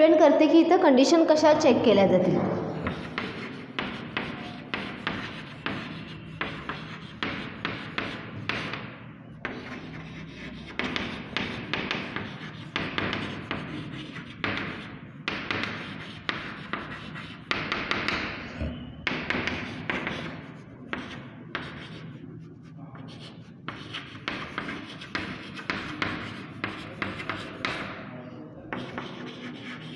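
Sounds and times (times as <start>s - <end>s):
chalk scratching on blackboard: 2.7s - 18.4s, 19.0s - 29.9s
chalk tapping on board: 2.8s - 18.4s, 19.0s - 28.0s, 28.7s - 29.9s.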